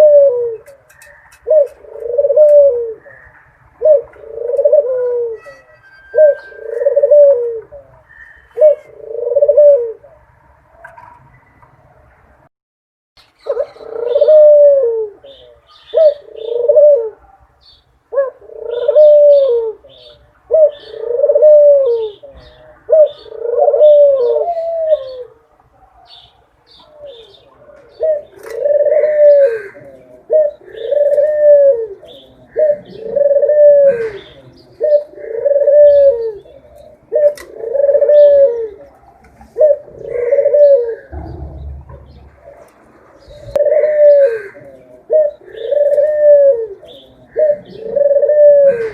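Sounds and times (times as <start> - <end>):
dove cooing: 0.0 - 11.2, 13.4 - 17.4, 18.1 - 26.2, 26.8 - 48.9.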